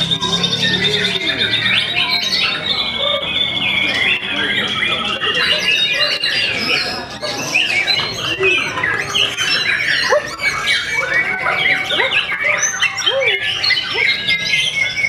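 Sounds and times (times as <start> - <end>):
other birdsong: 0.0 - 15.0.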